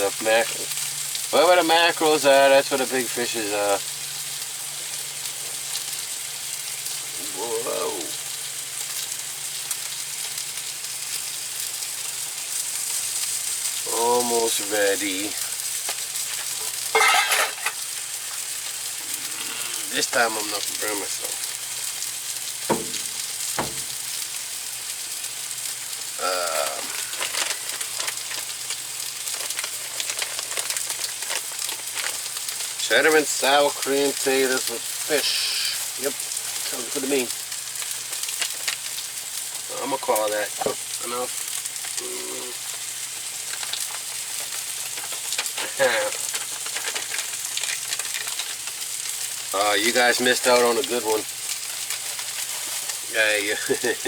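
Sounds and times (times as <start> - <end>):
fish frying in a pan: 0.0 - 54.0.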